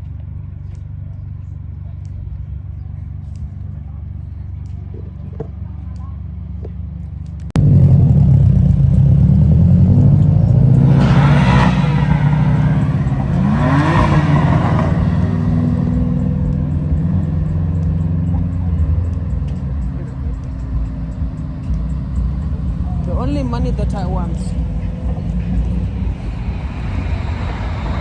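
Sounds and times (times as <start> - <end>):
car engine and exhaust revving: 0.0 - 28.0.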